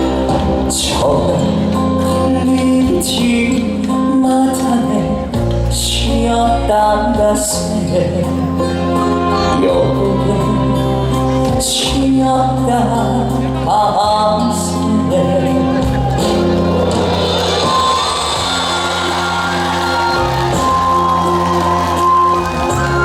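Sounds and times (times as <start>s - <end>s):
band music over loudspeakers: 0.0s - 23.0s
bass line: 0.0s - 23.0s
keyboard chords: 0.0s - 23.0s.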